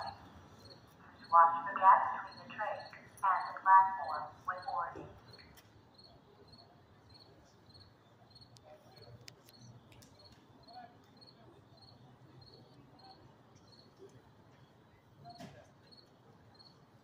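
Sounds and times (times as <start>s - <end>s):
cricket chirping: 0.0s - 13.9s, 15.2s - 16.8s.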